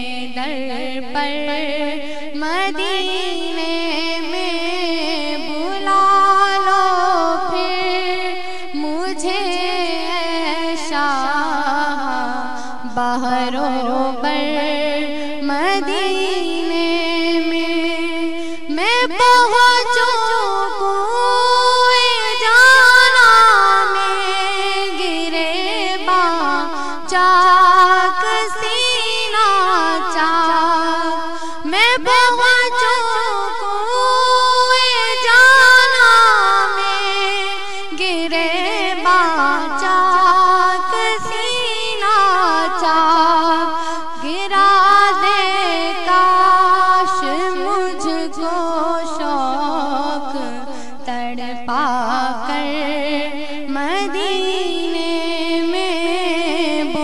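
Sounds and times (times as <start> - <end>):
wordless vocal melody: 0.0 - 57.0.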